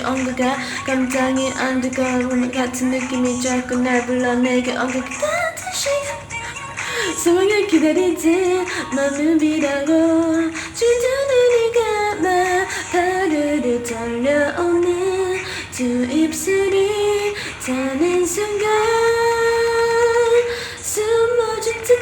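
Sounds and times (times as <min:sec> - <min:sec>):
person singing: 0:00.0 - 0:22.0
pop backing track: 0:00.0 - 0:22.0.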